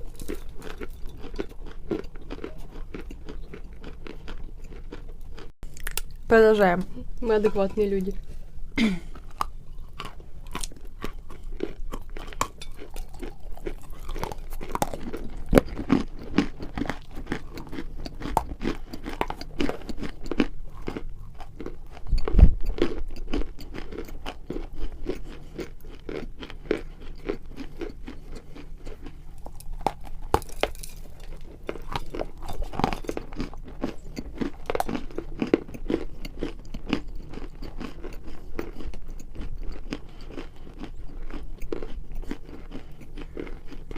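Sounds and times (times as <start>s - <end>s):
clay being chewed with crunches: 0.0s - 6.3s, 9.1s - 43.9s.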